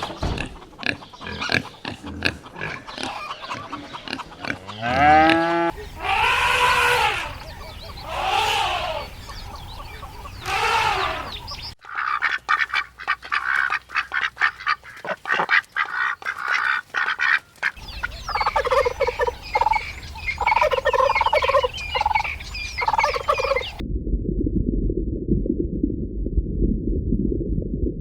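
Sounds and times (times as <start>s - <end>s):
waterfowl rapid calls: 0.8s - 23.8s.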